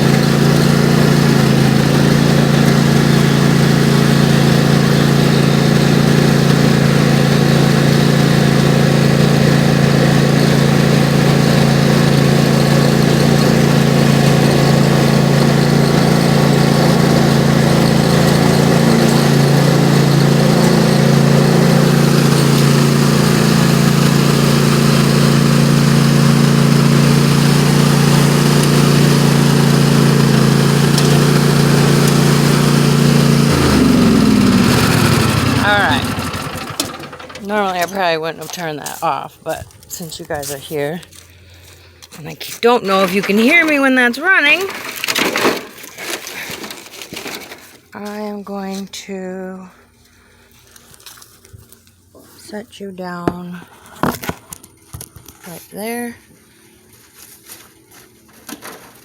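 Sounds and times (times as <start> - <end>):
riding lawn mower engine: 0.0 - 48.2, 49.8 - 59.0.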